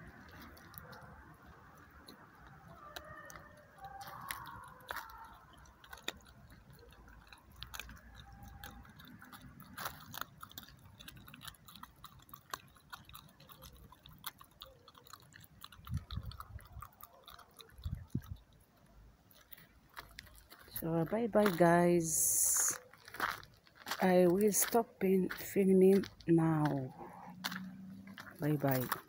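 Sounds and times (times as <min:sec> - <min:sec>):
dog crunching food: 0:00.0 - 0:29.0.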